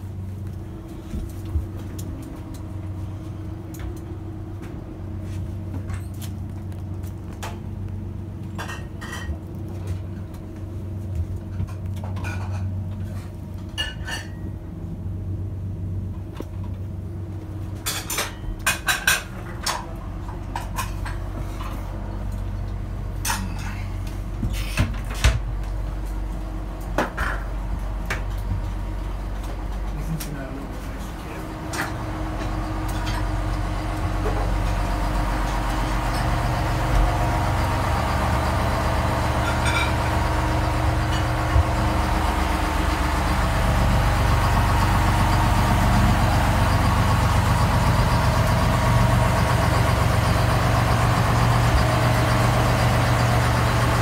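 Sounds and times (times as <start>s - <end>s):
low machinery hum: 0.0s - 54.0s.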